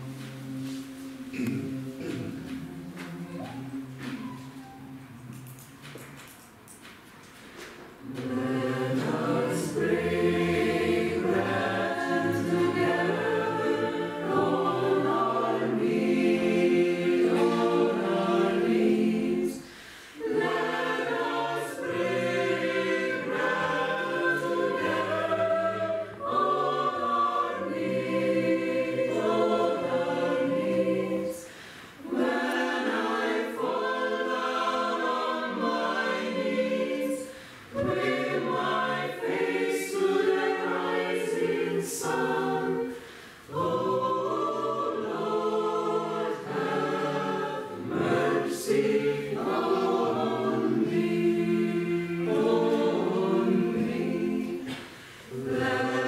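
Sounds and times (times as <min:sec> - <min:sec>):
choir singing: 0:00.0 - 0:06.2, 0:08.0 - 0:56.0.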